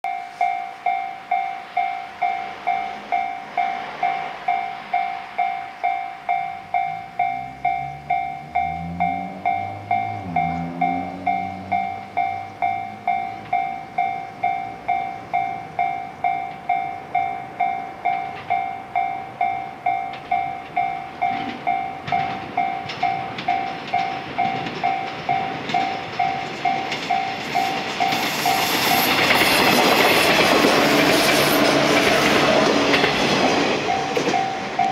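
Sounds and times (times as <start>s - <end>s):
level crossing bell dinging: 0.1s - 28.6s, 33.8s - 34.9s
electric train passing: 0.1s - 34.9s.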